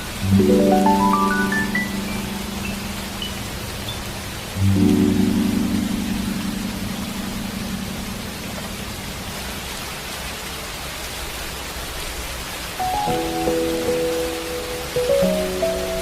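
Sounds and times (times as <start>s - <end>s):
soft music: 0.0s - 9.6s, 12.8s - 16.0s
steady rainfall: 0.0s - 16.0s.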